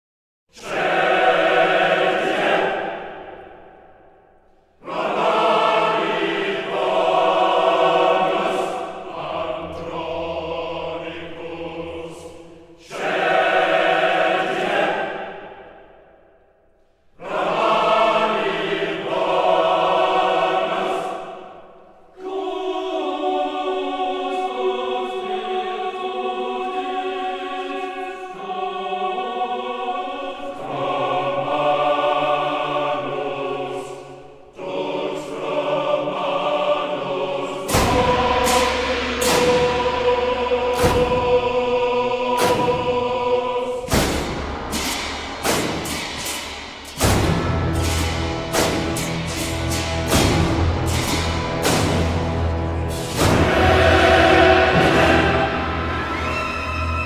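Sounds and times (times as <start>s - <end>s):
choir singing sustained chords: 0.5s - 57.0s.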